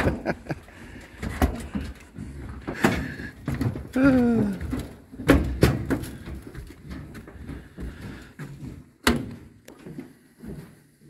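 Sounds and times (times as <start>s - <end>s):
footsteps on metal gangway: 0.0s - 11.0s.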